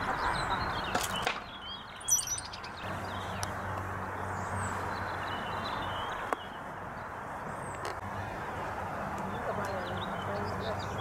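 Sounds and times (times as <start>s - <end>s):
small birds chirping: 0.0s - 8.0s, 9.2s - 11.0s.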